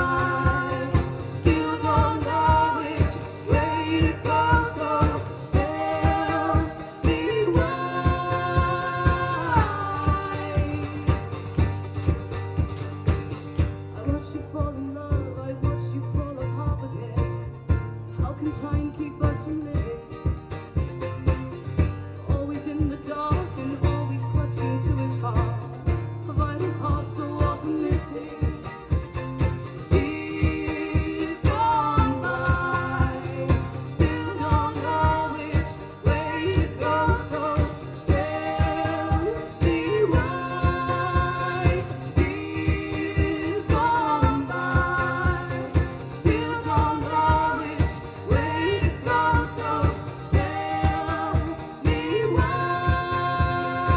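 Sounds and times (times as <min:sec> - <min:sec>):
live band music: 0:00.0 - 0:15.1, 0:15.8 - 0:53.9
strummed beat: 0:00.0 - 0:53.9.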